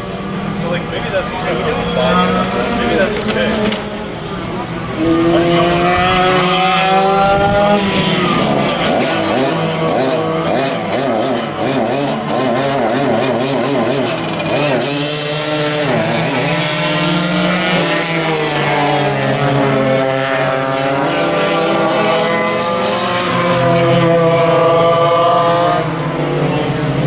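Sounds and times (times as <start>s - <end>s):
go-kart engines running: 0.0s - 27.0s.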